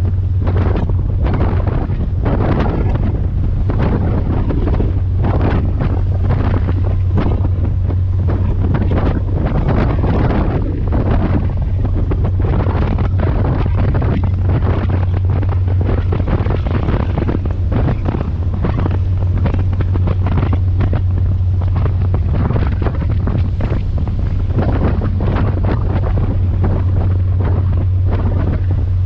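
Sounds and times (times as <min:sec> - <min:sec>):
low boat engine drone: 0:00.0 - 0:29.0
wind buffeting the microphone: 0:00.0 - 0:29.0.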